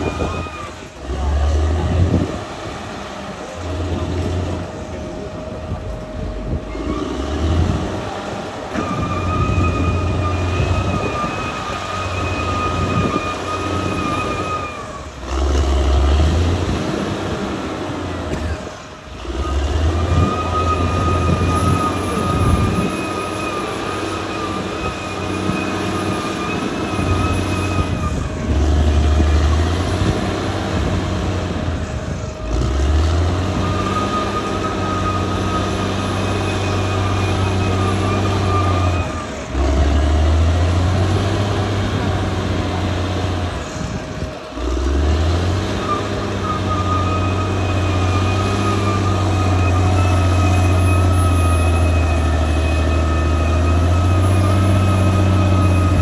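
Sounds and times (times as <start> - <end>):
bulldozer diesel engine: 0.0 - 56.0
steady whine: 0.0 - 56.0.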